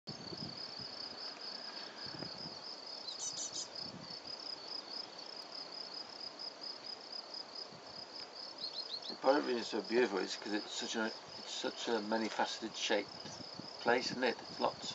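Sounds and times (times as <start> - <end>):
cricket chirping trill: 0.1 - 14.9
faint outdoor hiss: 0.1 - 14.9.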